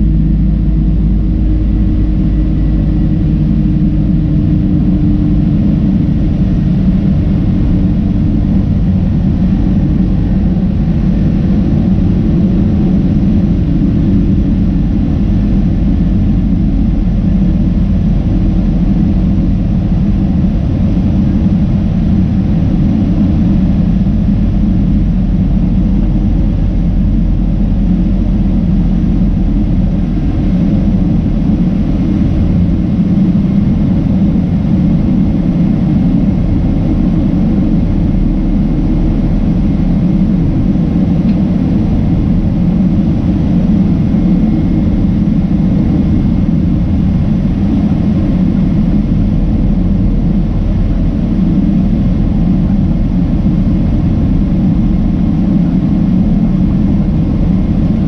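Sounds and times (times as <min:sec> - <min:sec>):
faint steady whine: 0:00.0 - 0:58.0
jet engine rumble: 0:00.0 - 0:58.0
rushing airflow: 0:00.0 - 0:58.0.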